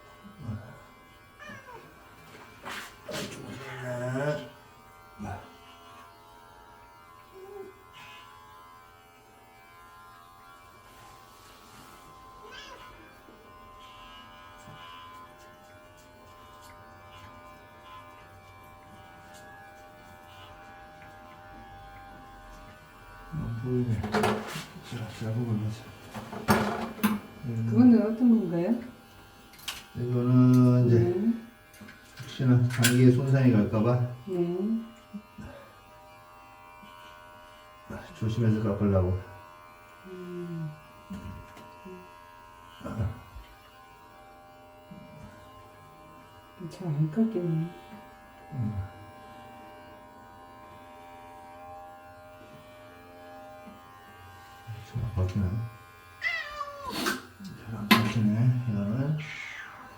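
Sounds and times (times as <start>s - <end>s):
electric hair clipper buzzing: 0.0s - 59.9s.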